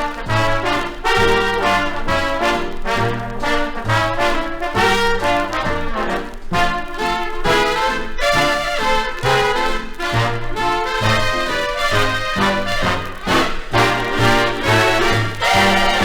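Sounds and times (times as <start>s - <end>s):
brass section playing swing: 0.0s - 16.0s
walking bass line: 0.0s - 16.0s.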